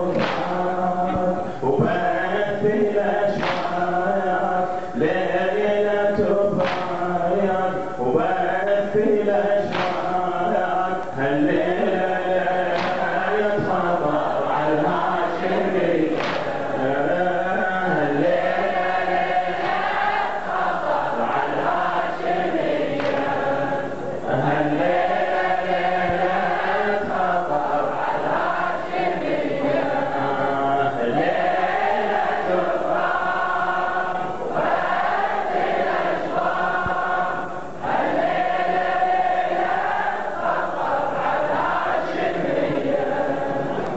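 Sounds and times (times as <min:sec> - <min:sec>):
crowd of men chanting: 0:00.0 - 0:43.9.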